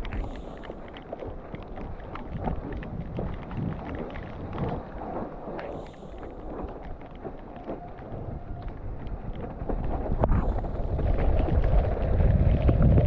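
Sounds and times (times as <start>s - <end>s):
bike tyre noise: 0.0s - 13.0s
wind buffeting microphone: 0.0s - 13.0s.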